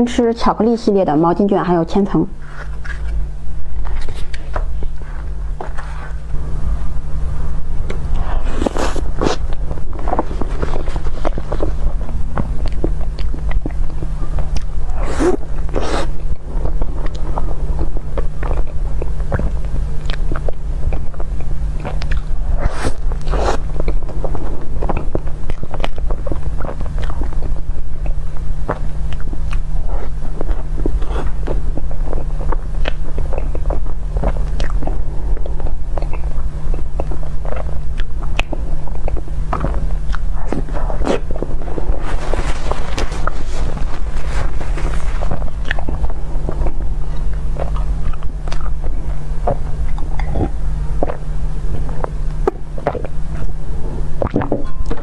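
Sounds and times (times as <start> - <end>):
steady low hum: 0.0 - 55.0
person chewing cake: 7.6 - 55.0.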